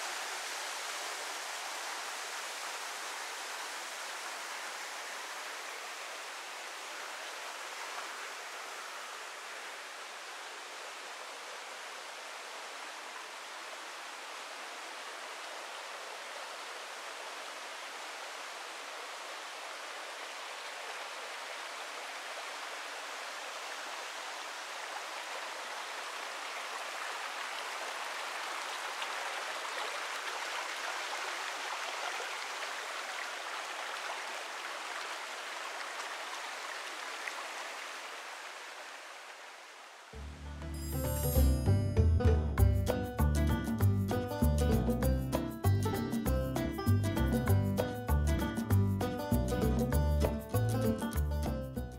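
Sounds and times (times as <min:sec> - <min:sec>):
stream water rushing: 0:00.0 - 0:41.7.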